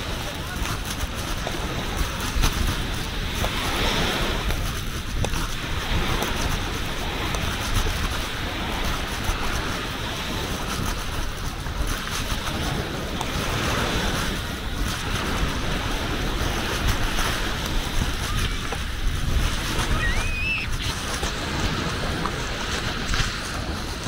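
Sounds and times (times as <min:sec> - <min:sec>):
sea surf washing on shore: 0:00.0 - 0:24.0
wind on microphone: 0:00.0 - 0:24.0.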